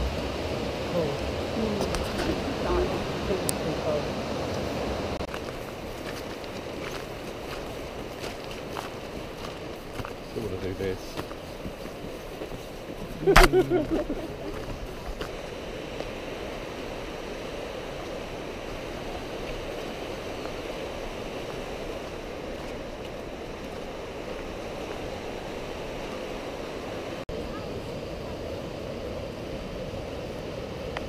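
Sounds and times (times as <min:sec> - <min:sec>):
river rushing over rocks: 0:00.0 - 0:29.1.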